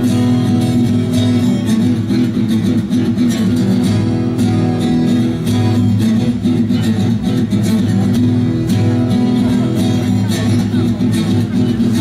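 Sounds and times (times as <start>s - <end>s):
electric guitar: 0.0s - 12.0s
live rock band playing: 0.0s - 12.0s.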